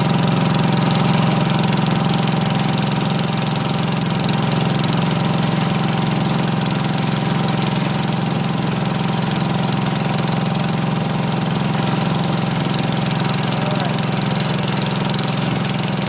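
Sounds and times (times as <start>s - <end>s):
garden tractor engine under load: 0.0s - 16.0s.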